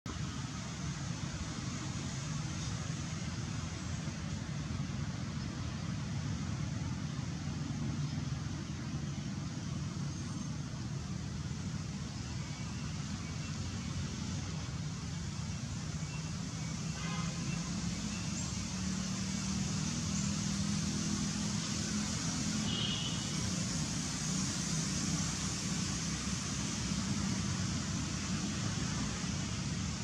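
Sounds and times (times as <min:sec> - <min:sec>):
road traffic rumble: 0:00.1 - 0:30.0.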